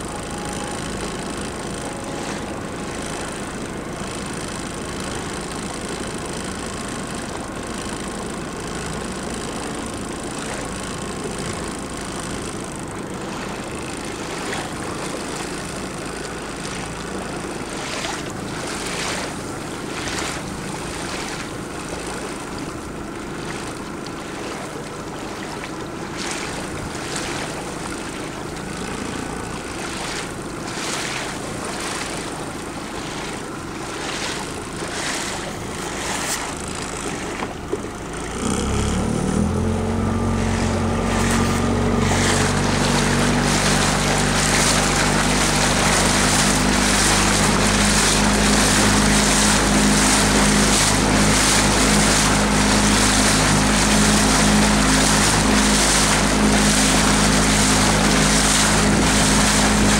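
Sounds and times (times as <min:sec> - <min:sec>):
rushing water: 0:00.0 - 0:59.9
speedboat engine running: 0:00.0 - 0:59.9.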